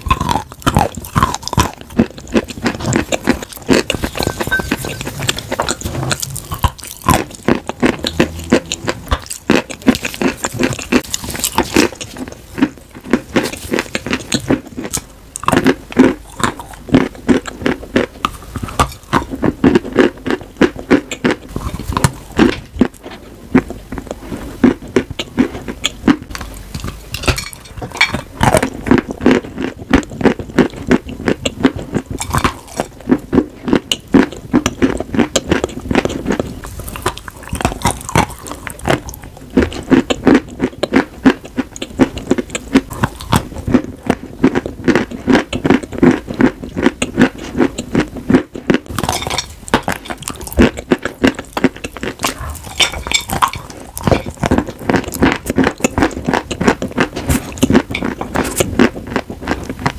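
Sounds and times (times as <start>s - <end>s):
chewing crunchy chalk: 0.0s - 59.9s.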